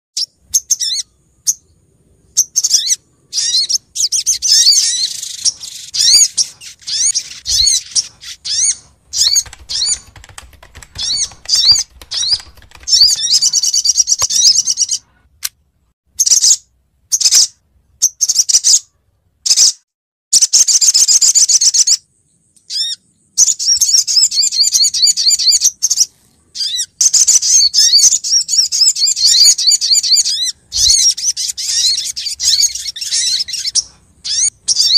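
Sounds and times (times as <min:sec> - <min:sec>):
sunbird twittering chirps: 0:00.2 - 0:10.2, 0:11.0 - 0:15.0, 0:20.4 - 0:34.9.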